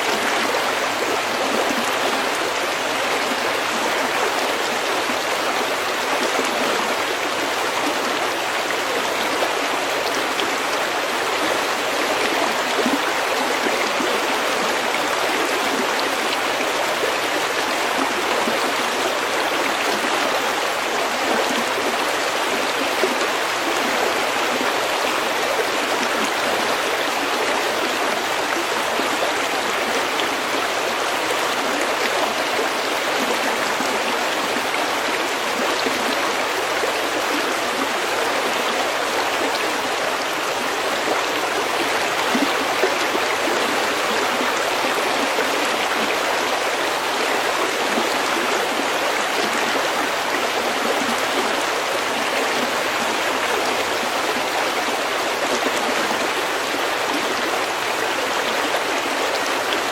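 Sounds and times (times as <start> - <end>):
stream flowing over pebbles: 0.0 - 59.9.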